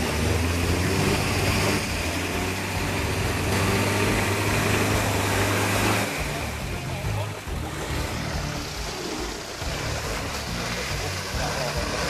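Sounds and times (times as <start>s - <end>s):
vehicle engine running: 0.0s - 12.0s
water churning and splashing: 0.0s - 12.0s.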